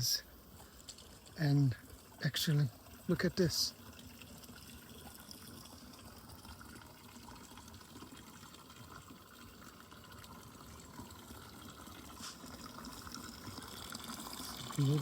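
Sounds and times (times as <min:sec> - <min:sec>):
fountain water running: 0:00.0 - 0:15.0.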